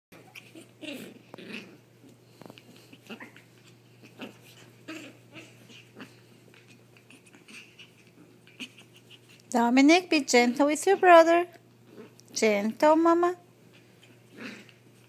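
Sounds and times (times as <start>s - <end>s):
dogs play growling: 0.2s - 9.5s, 10.4s - 12.4s, 13.5s - 15.0s.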